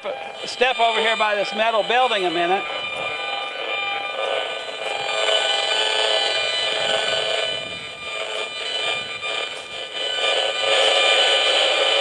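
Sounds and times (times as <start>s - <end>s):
meter buzzing alarm-like tone: 0.0s - 12.0s.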